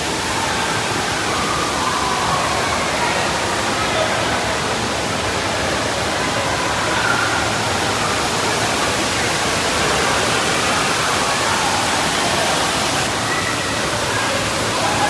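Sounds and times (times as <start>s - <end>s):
faint voices: 0.0s - 15.0s
water rushing and splashing: 0.0s - 15.0s.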